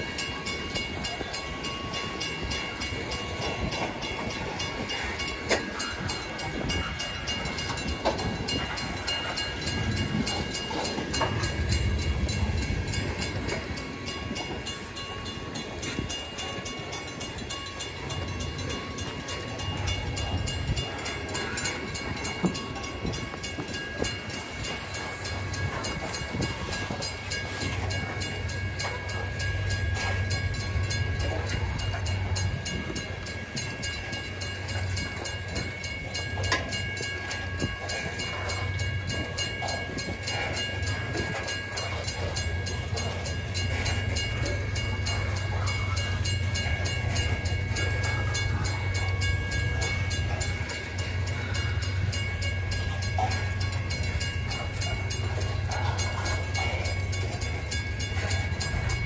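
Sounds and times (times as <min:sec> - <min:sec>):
train cars rumbling: 0:00.0 - 0:59.0
wheels clicking on rails: 0:00.0 - 0:59.0.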